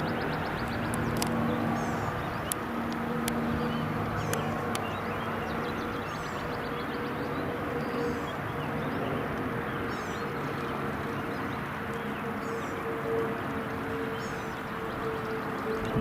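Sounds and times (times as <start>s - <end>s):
aircraft engine noise: 0.0s - 16.0s
small birds chirping: 0.0s - 16.0s.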